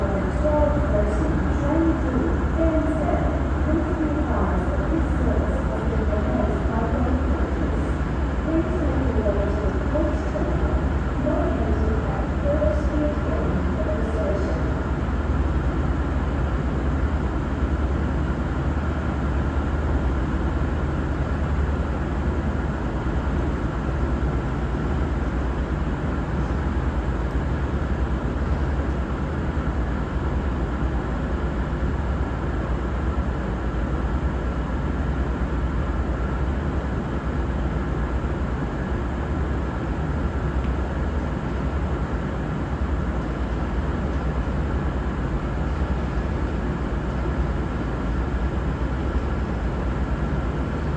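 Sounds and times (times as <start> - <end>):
diesel trains idling: 0.0 - 50.9
faint steady whine: 0.0 - 50.9.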